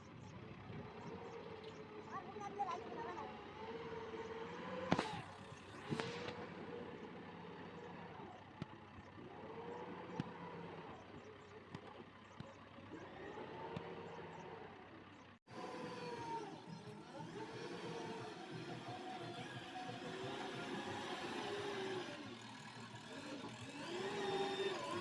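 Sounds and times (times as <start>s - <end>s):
heavy machinery engine running: 0.0s - 25.0s.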